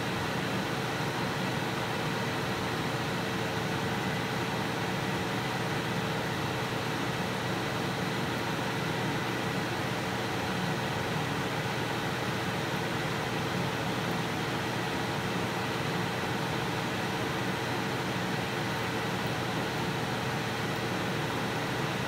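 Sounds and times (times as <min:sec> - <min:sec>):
steady mechanical hum and hiss: 0:00.0 - 0:22.0.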